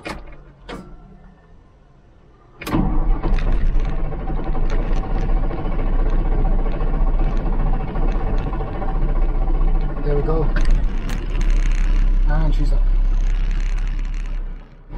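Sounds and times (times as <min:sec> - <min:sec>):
diesel engine starting and idling: 0:00.0 - 0:14.9.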